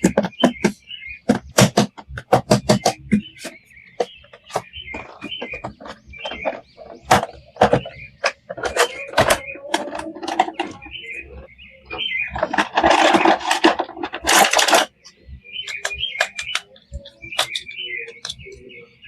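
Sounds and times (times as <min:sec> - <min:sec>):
plastic toys clicking and tapping: 0:00.0 - 0:18.7.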